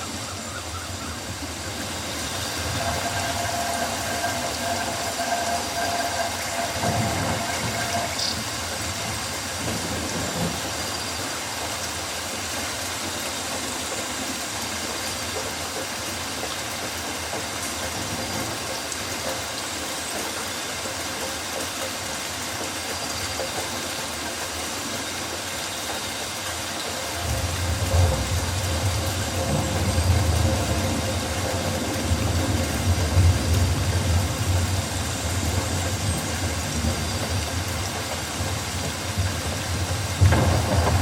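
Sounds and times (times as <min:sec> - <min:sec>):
rain on foliage: 0:00.0 - 0:41.0.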